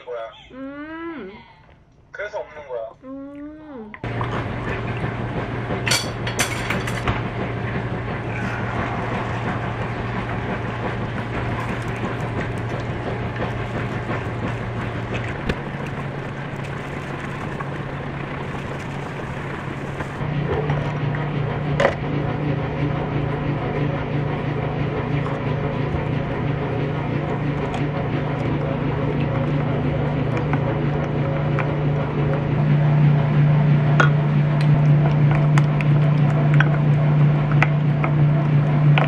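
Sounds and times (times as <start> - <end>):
vehicle humming: 4.0 - 39.0.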